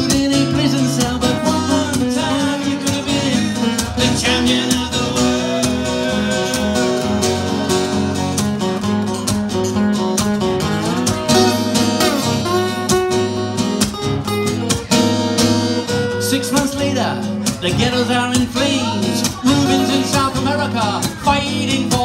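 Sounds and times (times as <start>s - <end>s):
acoustic guitars strumming: 0.0s - 22.0s.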